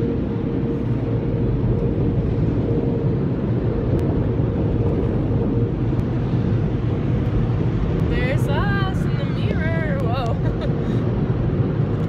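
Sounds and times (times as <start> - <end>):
car wash machinery rumbling: 0.0 - 12.0
steady droning tone: 0.0 - 12.0.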